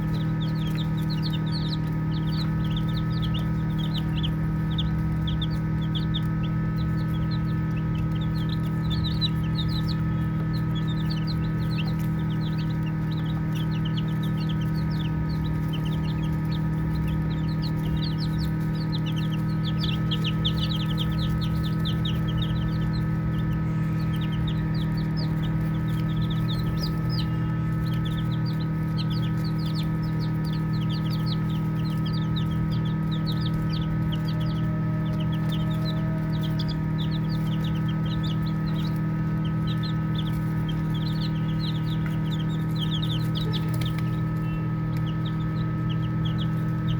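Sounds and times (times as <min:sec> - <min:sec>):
baby chicks peeping: 0:00.0 - 0:46.9
steady low hum: 0:00.0 - 0:46.9.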